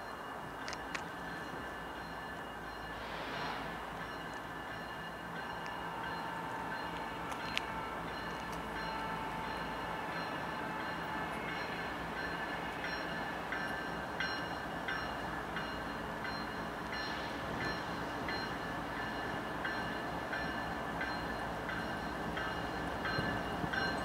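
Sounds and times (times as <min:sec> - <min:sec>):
distant train running: 0:00.0 - 0:24.0.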